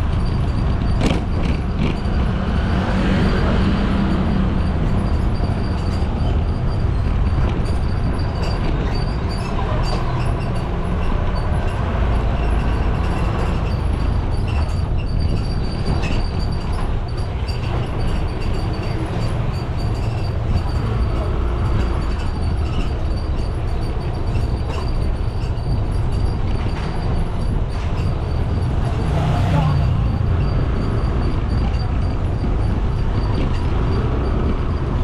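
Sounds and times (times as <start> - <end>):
wind and motorcycle engine rumble: 0.0 - 35.0.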